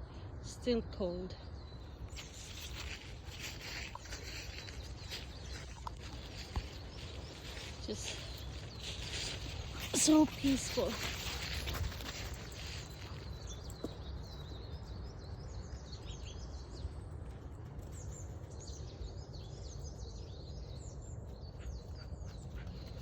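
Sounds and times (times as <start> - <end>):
songbirds chirping and singing: 0.0 - 23.0.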